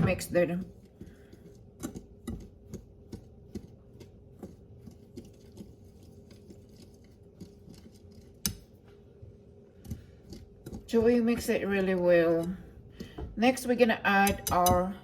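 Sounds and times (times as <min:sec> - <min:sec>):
utensil stirring dry batter in bowl: 0:00.0 - 0:15.0.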